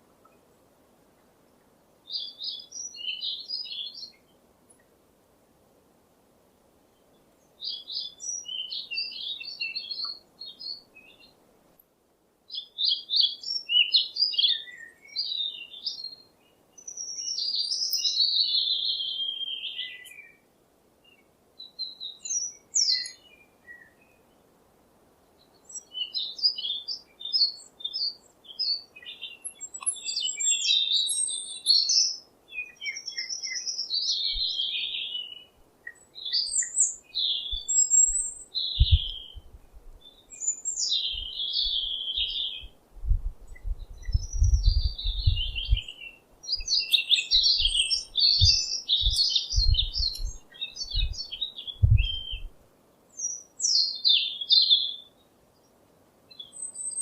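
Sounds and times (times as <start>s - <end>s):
songbird singing: 0.0s - 5.0s, 6.8s - 11.9s, 12.5s - 57.0s.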